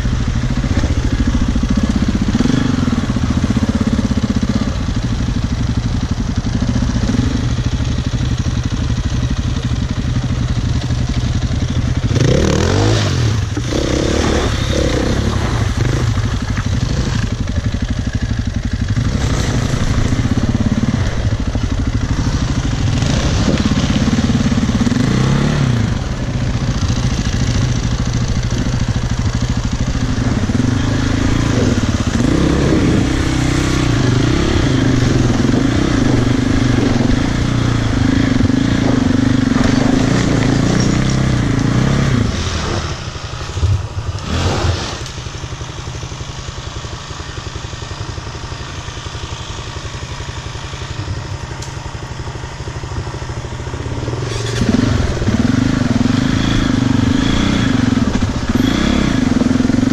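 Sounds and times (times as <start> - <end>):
dirt bike engine revving: 0.0 - 59.9
engine knocks and rattles: 0.0 - 59.9.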